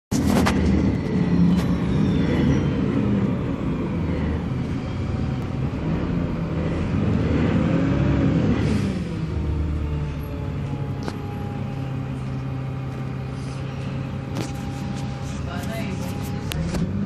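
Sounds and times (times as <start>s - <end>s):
bus engine drone: 0.1s - 17.0s.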